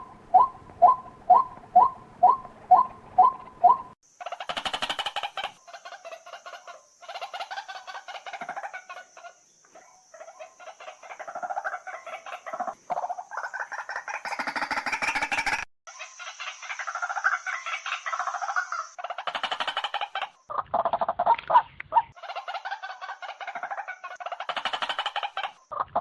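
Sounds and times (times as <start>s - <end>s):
waterhen croaking calls: 0.0s - 26.0s.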